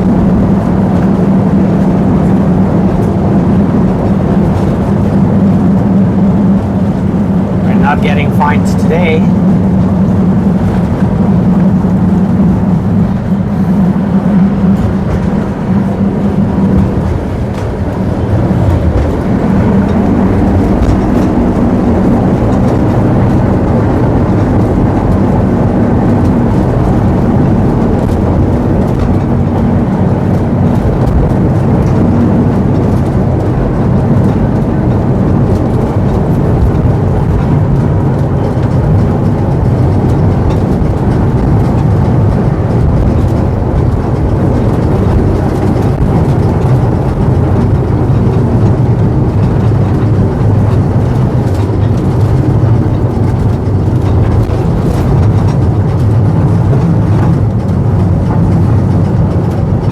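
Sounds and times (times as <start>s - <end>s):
tram motor hum: 0.0s - 59.9s
tram wheels rolling on tracks: 0.0s - 59.9s.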